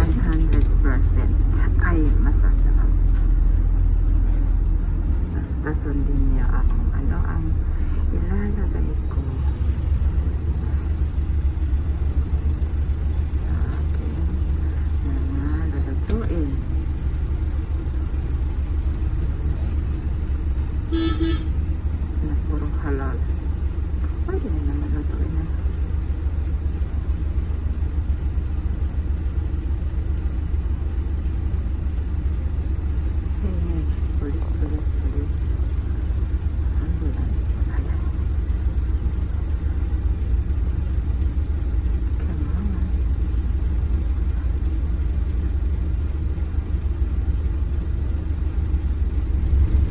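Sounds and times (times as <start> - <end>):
bus engine drone: 0.0 - 49.9
road rumble: 0.0 - 49.9.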